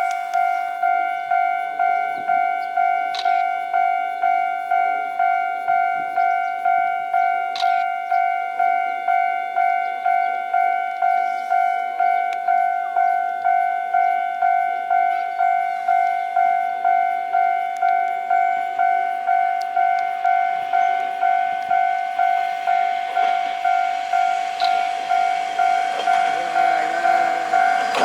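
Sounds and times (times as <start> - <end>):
level-crossing warning bell ringing: 0.0 - 28.0.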